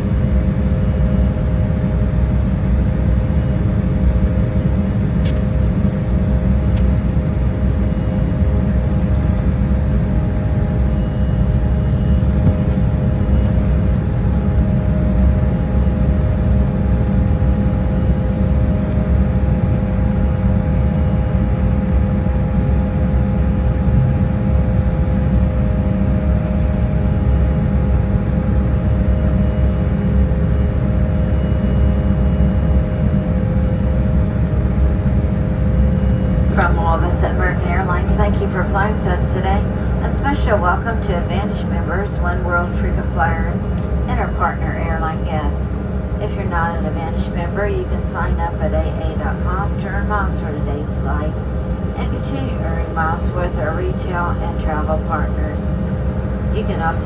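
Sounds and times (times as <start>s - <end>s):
airliner cabin roar: 0.0s - 57.0s.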